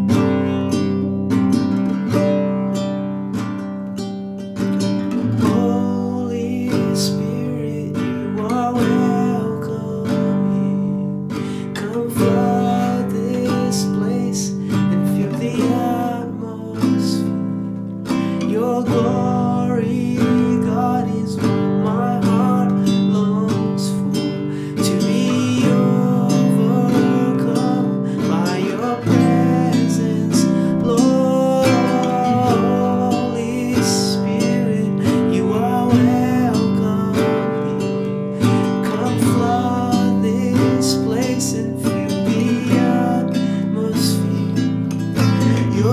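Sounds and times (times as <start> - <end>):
man singing: 0.0 - 2.8, 4.6 - 45.9
nylon-string guitar strumming: 0.0 - 45.9.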